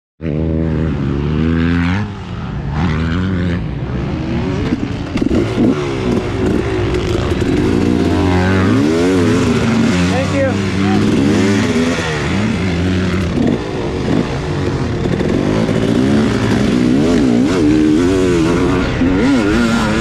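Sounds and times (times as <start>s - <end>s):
dirt bike engine revving: 0.2s - 20.0s.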